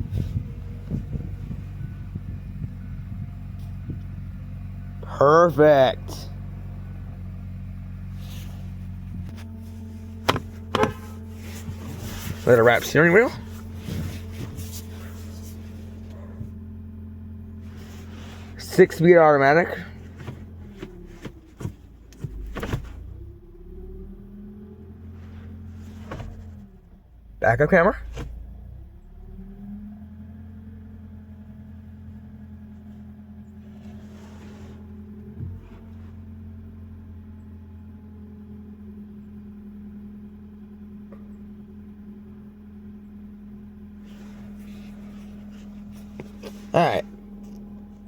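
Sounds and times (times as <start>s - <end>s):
car engine idling inside cabin: 0.0s - 48.0s.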